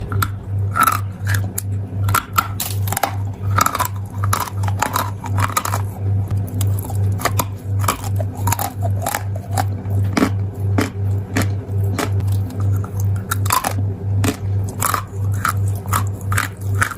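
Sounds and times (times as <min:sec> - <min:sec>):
pulsing low hum: 0:00.0 - 0:16.9.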